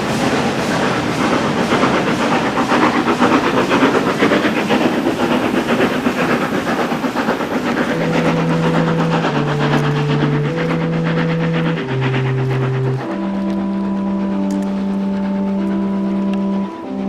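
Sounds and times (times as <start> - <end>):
steady held whistle notes: 0.0 - 17.0
steam hissing: 0.0 - 17.0
steam locomotive exhaust beat: 0.0 - 17.0.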